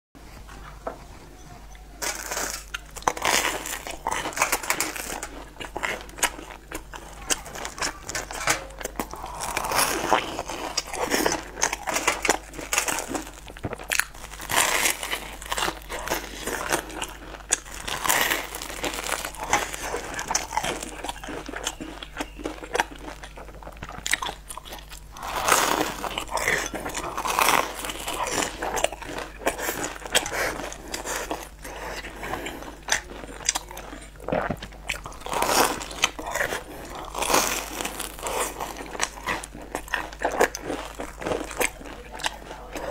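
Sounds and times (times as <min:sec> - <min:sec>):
crunchy bread stick chewing: 0:02.0 - 0:42.9.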